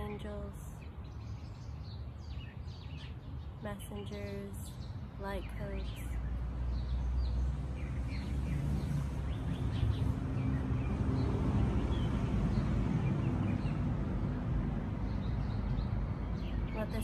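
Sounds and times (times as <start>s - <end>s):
road traffic: 0.0s - 17.0s
small birds chirping: 0.0s - 17.0s.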